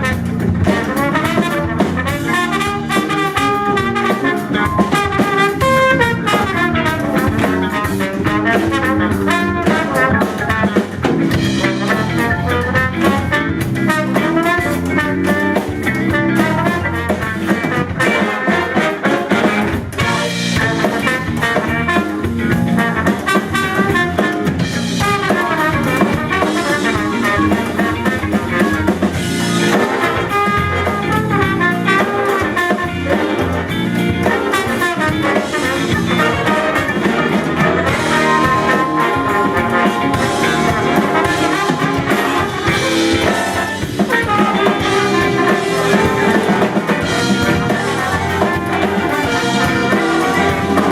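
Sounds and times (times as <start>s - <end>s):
funk band playing: 0.0s - 50.9s.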